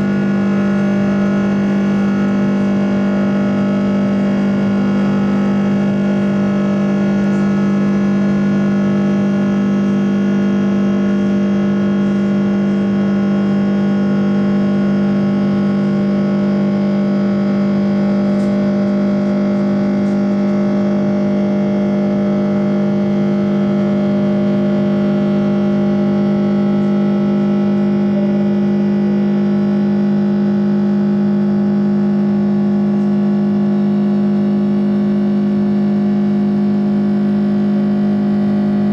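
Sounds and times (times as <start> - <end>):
jet engines droning in cabin: 0.0 - 38.9.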